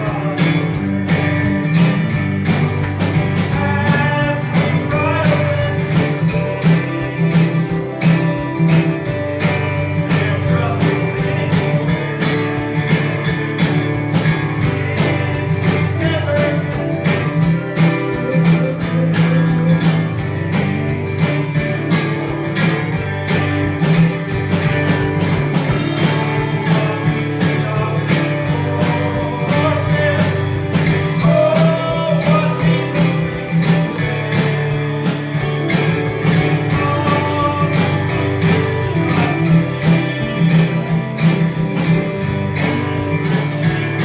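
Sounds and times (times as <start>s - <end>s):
country gospel music: 0.0s - 44.0s
strummed acoustic guitar: 0.0s - 44.0s.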